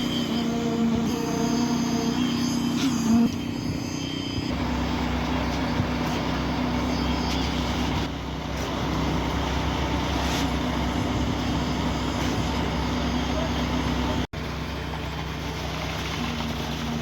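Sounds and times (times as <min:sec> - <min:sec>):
deep rumble: 0:00.0 - 0:17.0
diesel machinery engine hum: 0:00.0 - 0:17.0.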